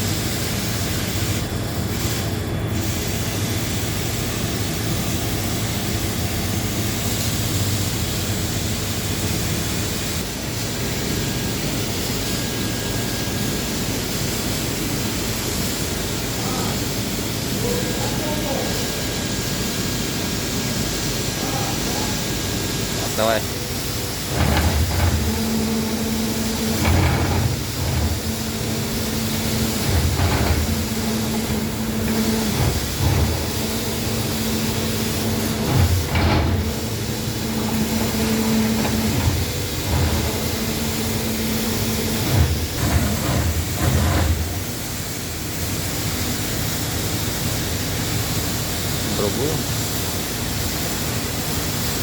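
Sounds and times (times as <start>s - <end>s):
plasma cutter hiss: 0.0s - 52.0s
plasma cutter hum: 0.0s - 52.0s.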